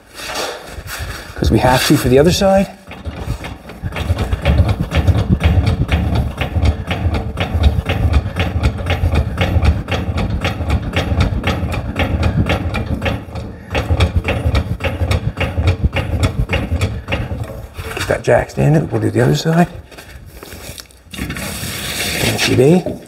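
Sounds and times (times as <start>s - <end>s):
machine clattering: 1.6s - 20.3s
low hum: 2.6s - 22.1s.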